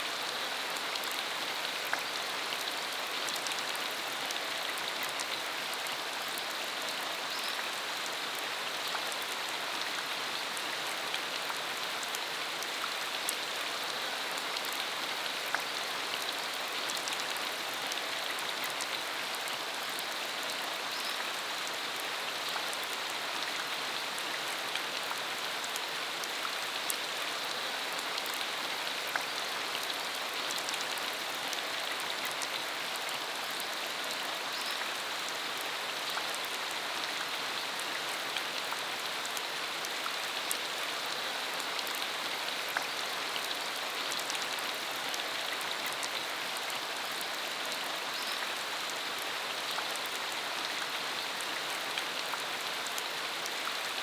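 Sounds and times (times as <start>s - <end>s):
rain falling on dirt road: 0.0s - 54.0s.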